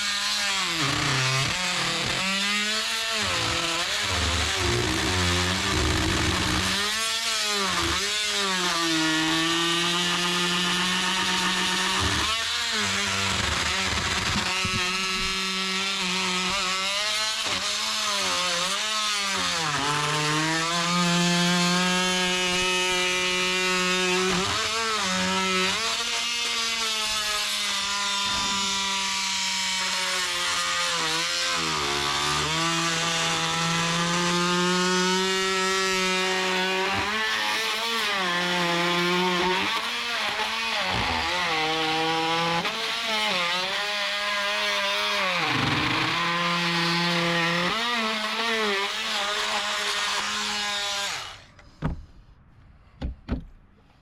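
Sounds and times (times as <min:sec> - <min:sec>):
multi-tool cutting wood: 0:00.0 - 0:52.2.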